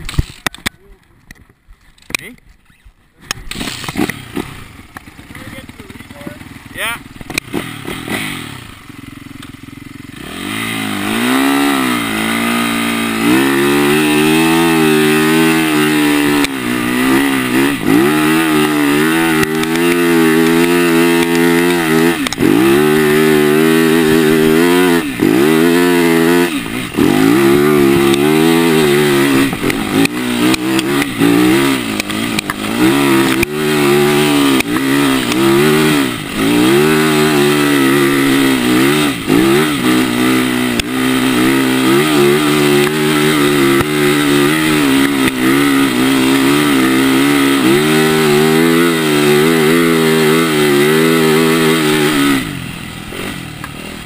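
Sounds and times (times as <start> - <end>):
motorcycle engine revving: 2.1 - 54.0.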